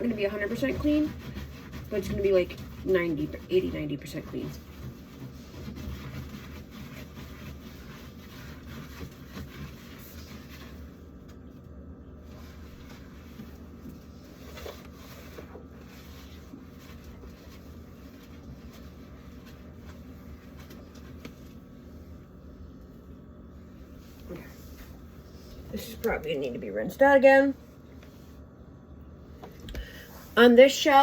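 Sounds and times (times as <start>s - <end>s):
sponge scrubbing a shelf: 0.0s - 11.3s, 12.2s - 28.4s.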